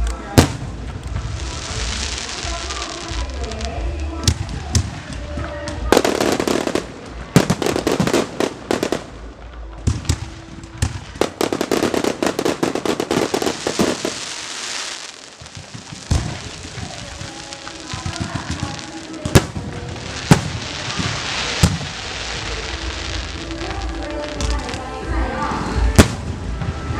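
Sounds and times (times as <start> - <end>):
fireworks crackling bursts: 0.0 - 26.9.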